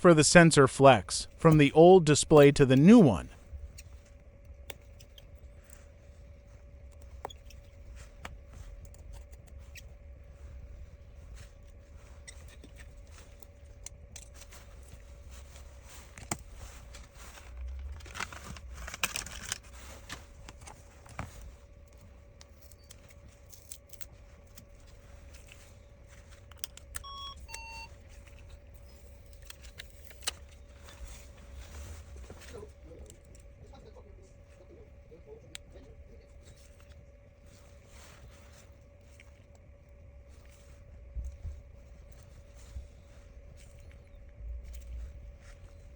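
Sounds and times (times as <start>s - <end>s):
faint steady hum: 0.0s - 45.9s.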